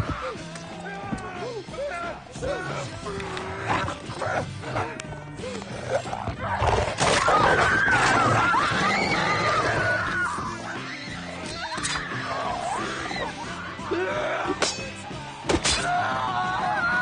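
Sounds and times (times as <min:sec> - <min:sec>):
film music: 0:00.0 - 0:17.0.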